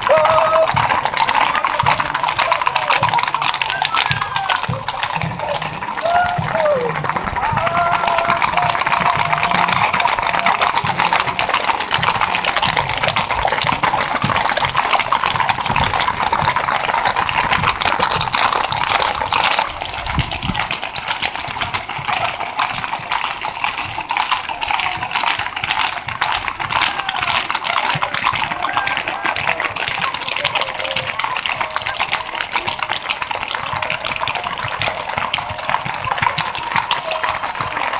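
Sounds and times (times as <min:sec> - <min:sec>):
horse hooves clopping on asphalt: 0:00.0 - 0:37.9.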